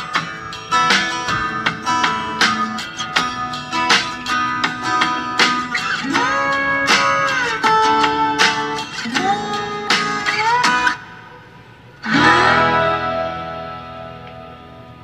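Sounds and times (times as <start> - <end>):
guitar with sliding bent notes: 0.0 - 15.0.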